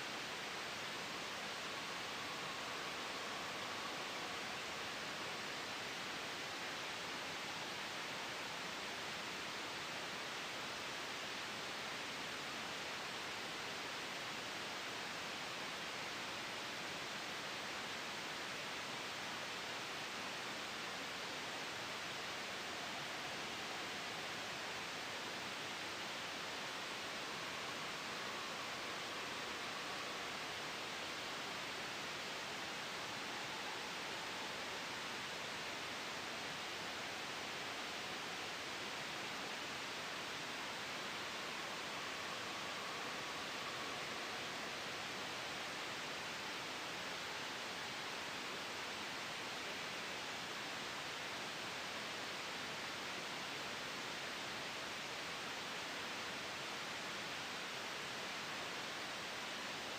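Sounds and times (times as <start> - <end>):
gentle wind: 0.0 - 59.9
soft white noise hiss: 0.0 - 59.9.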